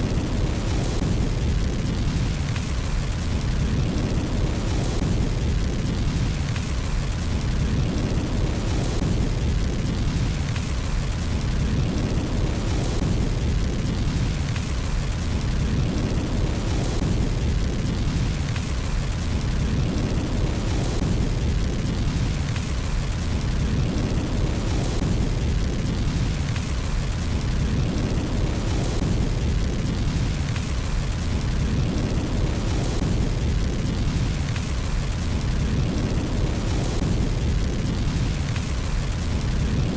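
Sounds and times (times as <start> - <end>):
fire crackling: 0.0 - 39.9
fire rumbling: 0.0 - 39.9.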